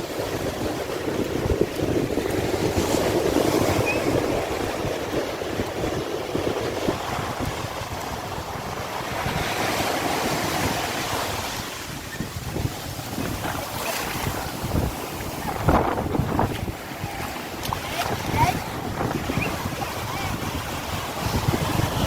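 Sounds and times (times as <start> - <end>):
sea surf washing: 0.0 - 22.0
wind buffeting microphone: 0.0 - 22.0.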